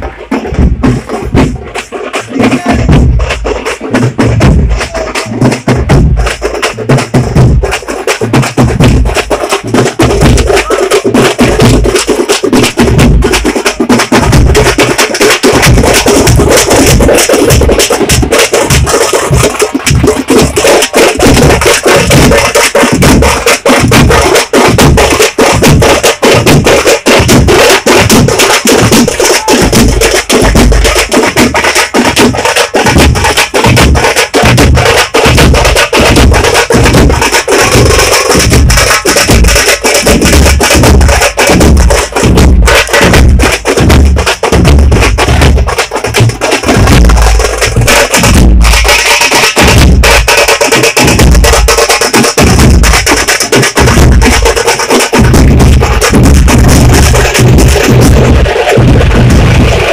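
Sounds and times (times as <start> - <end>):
bass drum beats: 0.0 - 59.9
drum band playing fast beat: 0.0 - 59.9.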